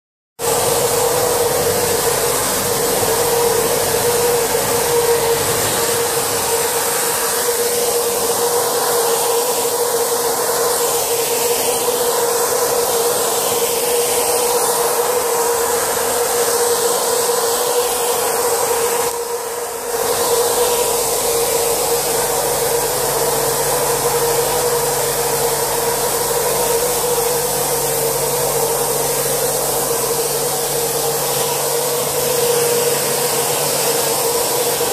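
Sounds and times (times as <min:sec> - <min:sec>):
spraying machine hissing with whine: 0:00.4 - 0:34.9.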